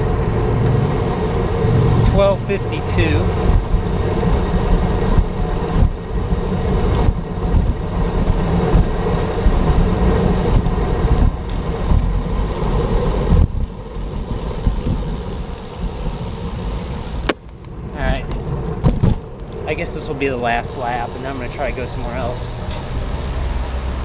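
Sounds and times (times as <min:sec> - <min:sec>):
road traffic: 0:00.0 - 0:24.0
wind rumbling on microphone: 0:00.0 - 0:24.0.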